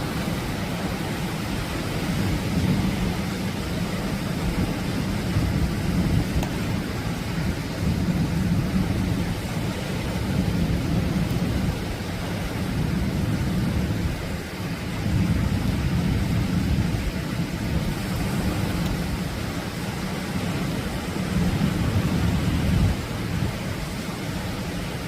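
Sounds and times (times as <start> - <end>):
surf breaking on shore: 0.0 - 25.0.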